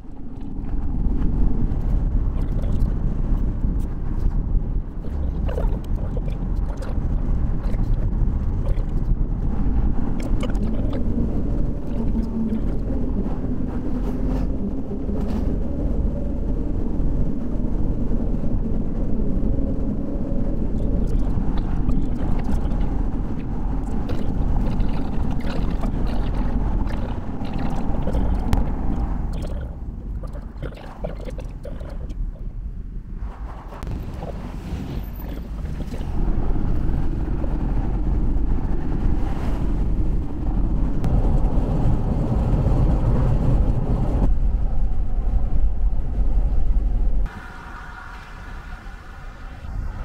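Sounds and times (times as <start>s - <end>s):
moving vehicle rumble: 0.0s - 50.0s.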